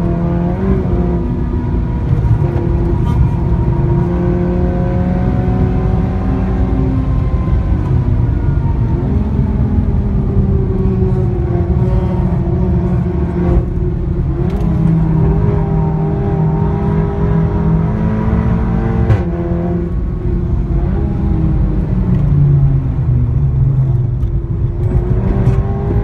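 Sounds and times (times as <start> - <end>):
car engine and loud exhaust: 0.0 - 26.0.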